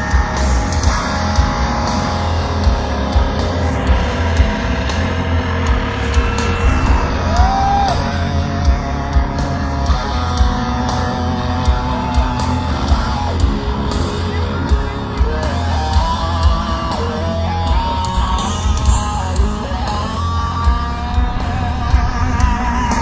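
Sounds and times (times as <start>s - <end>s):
bass guitar: 0.0s - 23.0s
distorted electric guitars: 0.0s - 23.0s
drums steady beat: 0.0s - 23.0s.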